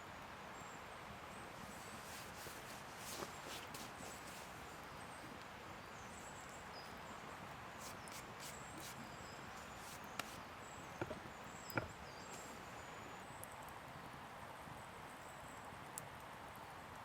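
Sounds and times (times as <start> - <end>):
steady soft hiss: 0.0 - 16.8.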